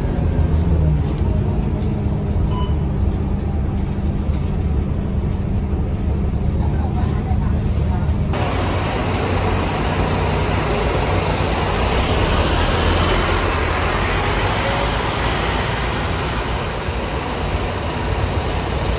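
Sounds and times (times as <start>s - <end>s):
bus diesel engine pulling away: 0.0s - 6.4s, 7.1s - 18.9s.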